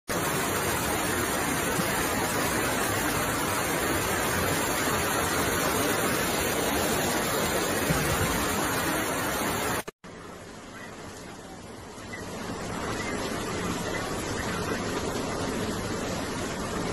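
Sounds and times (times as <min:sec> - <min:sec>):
floodwater rushing: 0:00.1 - 0:16.9.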